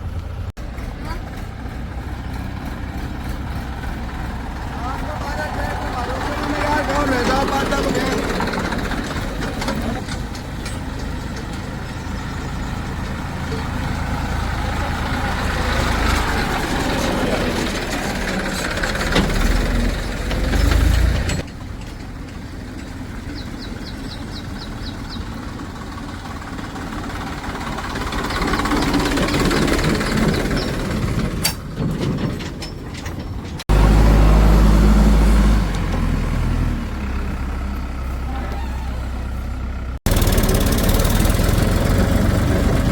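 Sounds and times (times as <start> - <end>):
heavy diesel engines running: 0.0 - 42.9.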